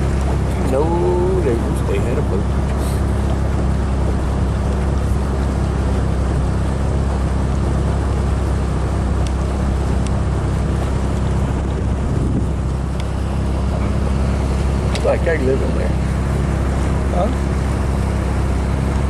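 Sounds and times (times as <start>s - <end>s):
outboard motor droning: 0.0s - 19.0s.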